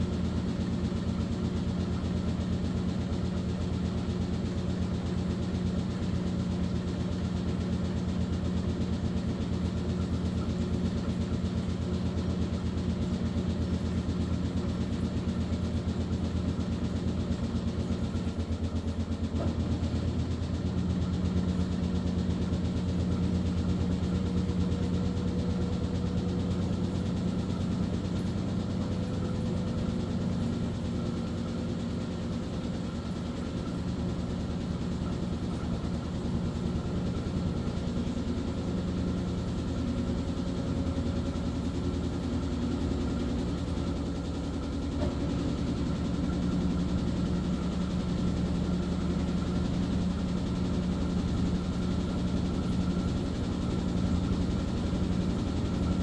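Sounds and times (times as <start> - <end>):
washing machine motor hum pulsing: 0.0 - 56.0.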